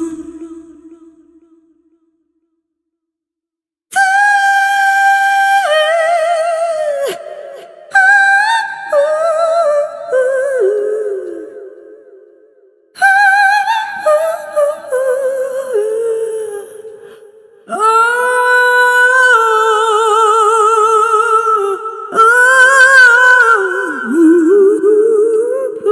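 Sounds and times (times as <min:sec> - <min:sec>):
woman singing wordless phrases: 0:00.0 - 0:01.7, 0:03.9 - 0:12.3, 0:13.0 - 0:25.9.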